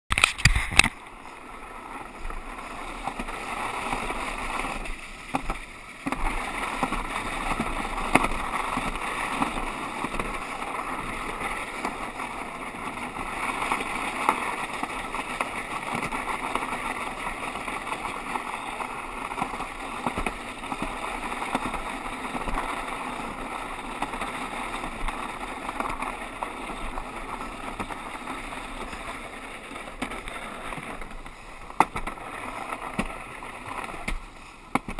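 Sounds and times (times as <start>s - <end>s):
sled rushing scrape on track: 0.1s - 34.9s.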